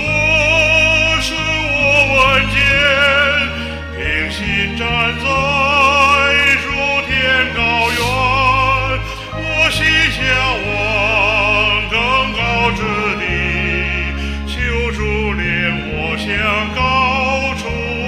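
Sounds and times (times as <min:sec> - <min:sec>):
instrumental accompaniment: 0:00.0 - 0:18.0
operatic hymn singing: 0:00.0 - 0:18.0.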